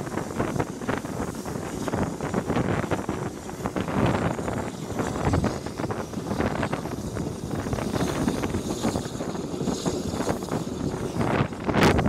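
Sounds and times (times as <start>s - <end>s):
train rumble: 0.0s - 12.0s
wheels clattering: 0.0s - 12.0s
wind buffeting microphone: 0.0s - 12.0s.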